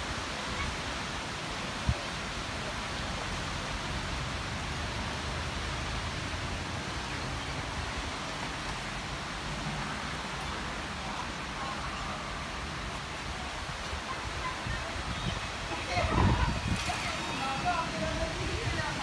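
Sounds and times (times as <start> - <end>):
heavy rain hissing: 0.0 - 19.0
low wind rumble: 0.0 - 19.0.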